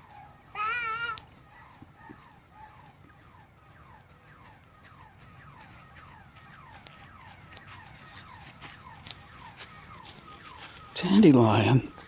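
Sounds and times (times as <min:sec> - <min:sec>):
small bird peeping: 0:01.1 - 0:11.4.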